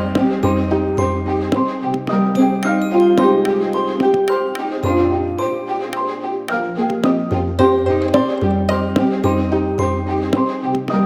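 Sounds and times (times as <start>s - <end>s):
traditional chinese instrumental music: 0.0s - 11.0s.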